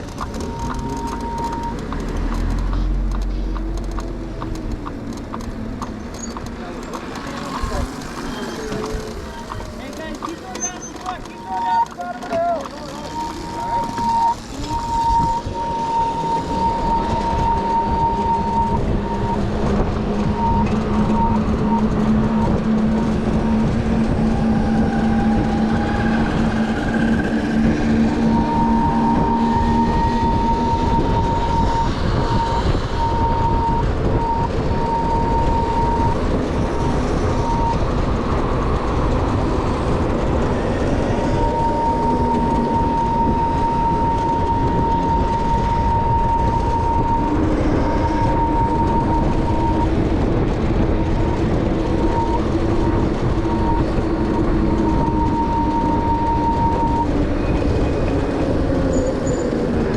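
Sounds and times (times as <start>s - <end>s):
heavy wind: 0.0s - 59.9s
high-pitched motor whine: 0.0s - 59.9s
road rumble: 0.0s - 59.9s.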